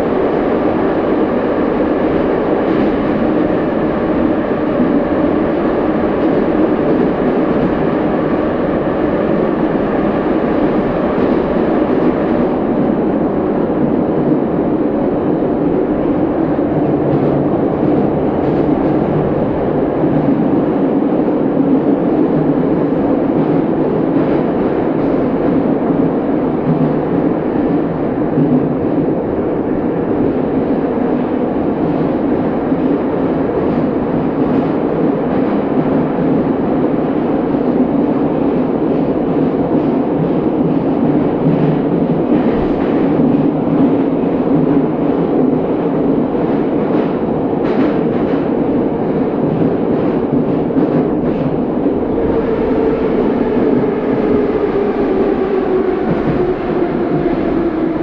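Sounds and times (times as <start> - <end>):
falling whine of train slowing: 0.0 - 58.0
train wheels rumbling on rails: 0.0 - 58.0.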